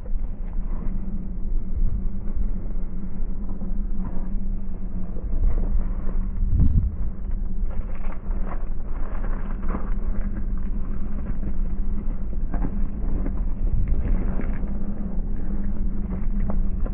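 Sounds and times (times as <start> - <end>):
electric motor and gear hum: 0.0 - 16.9.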